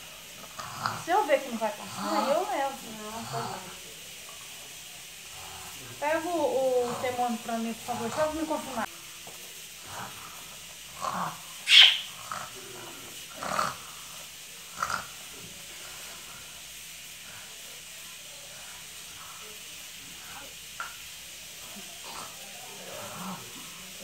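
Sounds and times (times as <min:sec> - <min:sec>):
low room noise: 0:00.0 - 0:24.0.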